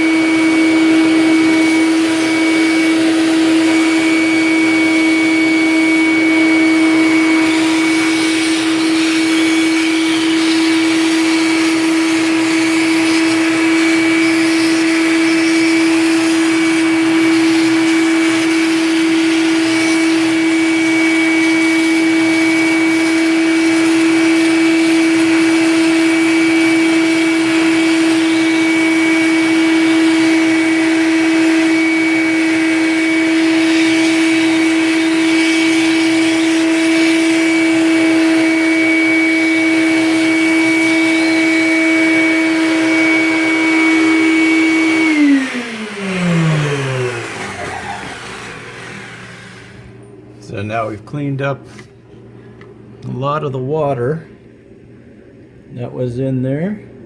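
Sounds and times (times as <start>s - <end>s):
vacuum sucking water: 0.0s - 54.4s
shop vac running: 0.0s - 57.0s.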